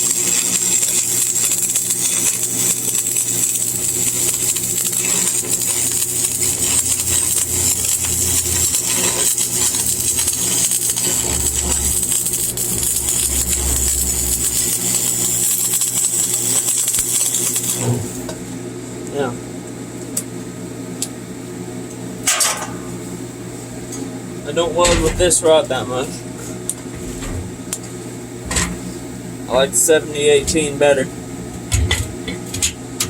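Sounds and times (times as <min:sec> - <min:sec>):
welding arc crackling and sizzling: 0:00.0 - 0:18.6, 0:24.4 - 0:33.0.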